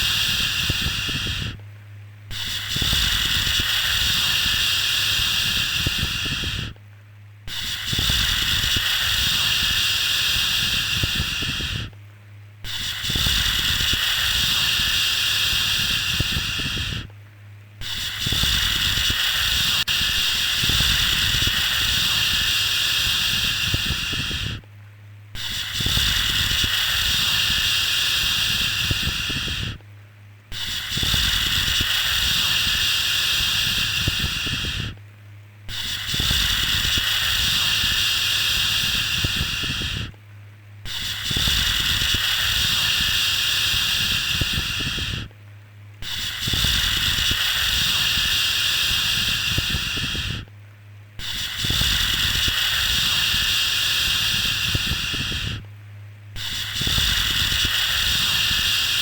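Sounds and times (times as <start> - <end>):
low steady hum: 0.0 - 58.8.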